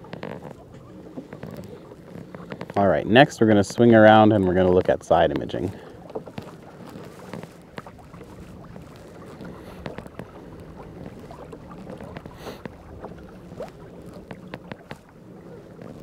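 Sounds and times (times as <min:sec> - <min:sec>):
water washing along hull: 0:00.0 - 0:16.0.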